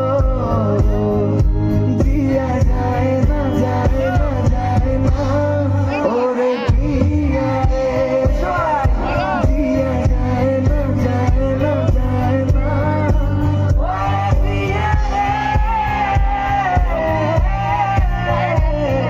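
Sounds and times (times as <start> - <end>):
steady drum beat: 0.0 - 5.8, 6.7 - 19.0
bass guitar: 0.0 - 19.0
man singing into microphone: 0.0 - 19.0.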